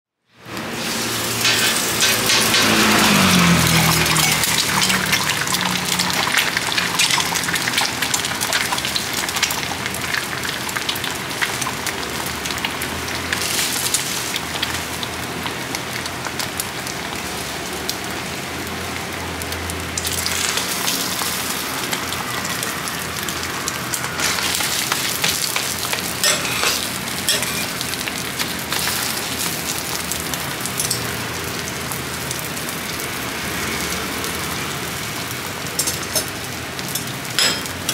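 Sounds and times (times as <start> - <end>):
egg sizzling on a griddle: 0.4 - 37.9.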